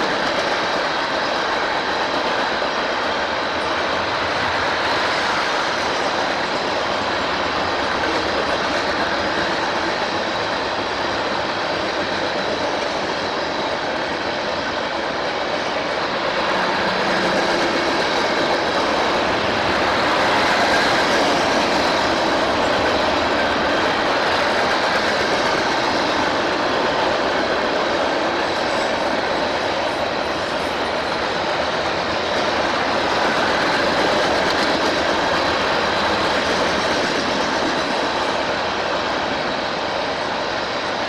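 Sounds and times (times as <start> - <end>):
train wheels on rail: 0.0 - 41.0.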